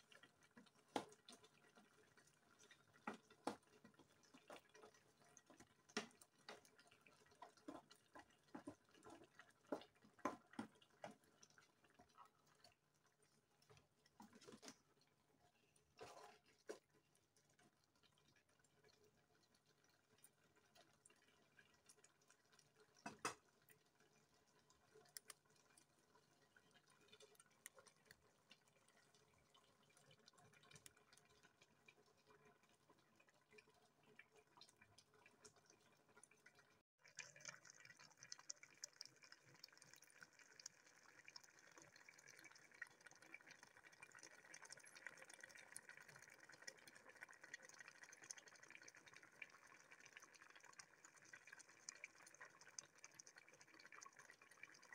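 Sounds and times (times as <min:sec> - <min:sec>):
soup bubbling in a pot: 0:00.0 - 0:54.9.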